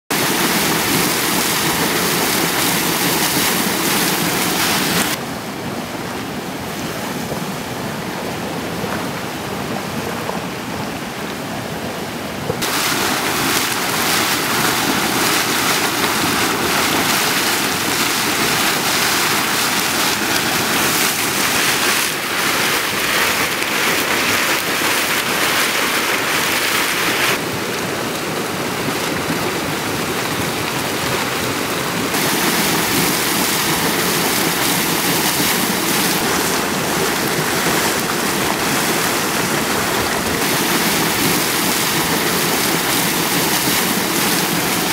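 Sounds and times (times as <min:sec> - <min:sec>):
hot spring water gushing: 0:00.1 - 0:44.9.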